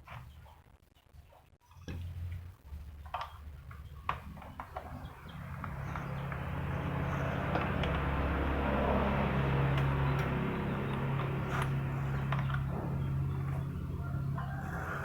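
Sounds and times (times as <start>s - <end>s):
mechanical hum with gritty hiss: 0.0s - 15.0s.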